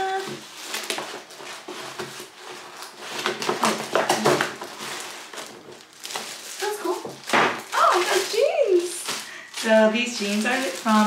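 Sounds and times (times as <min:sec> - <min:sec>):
paper bag rustling and tearing: 0:00.0 - 0:11.0.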